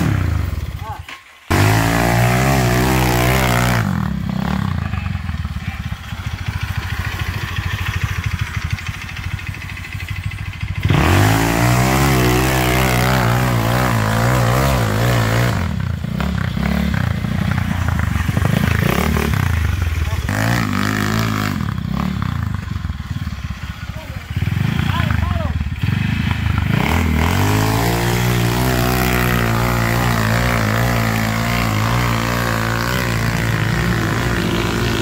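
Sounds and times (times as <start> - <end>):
go-kart engine revving: 0.0 - 35.0.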